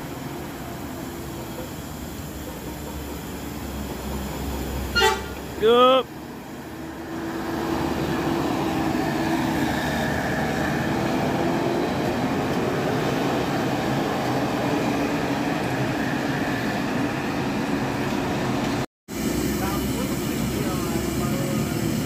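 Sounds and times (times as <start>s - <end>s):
bus engine and road roar: 0.0s - 22.0s.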